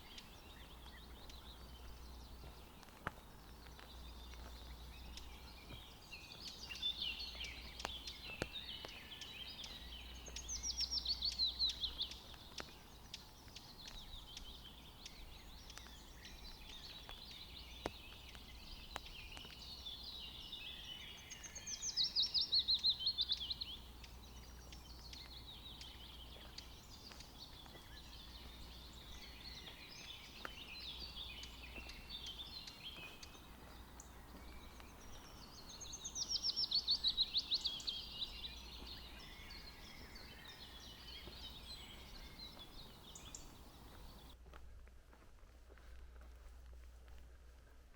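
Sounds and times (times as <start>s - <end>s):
forest birds chattering: 0.0s - 44.4s.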